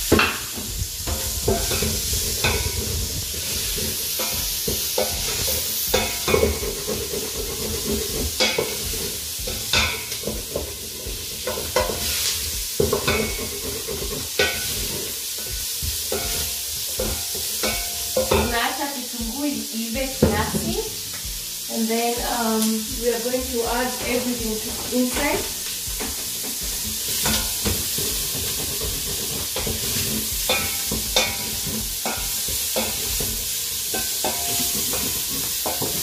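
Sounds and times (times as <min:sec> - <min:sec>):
onions sizzling in oil: 0:00.0 - 0:36.0
wooden spoon scraping a pot: 0:00.6 - 0:18.6, 0:23.2 - 0:36.0.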